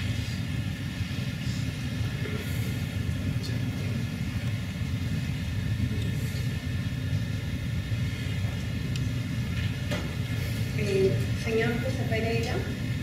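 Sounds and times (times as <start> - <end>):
low rumble of hall noise: 0.0 - 13.0.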